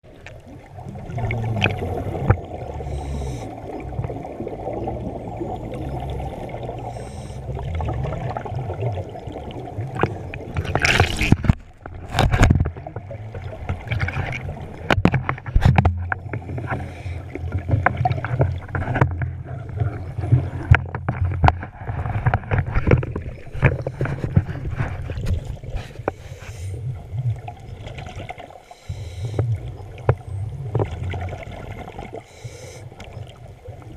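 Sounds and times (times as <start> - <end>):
water sloshing around boat: 0.0 - 33.9.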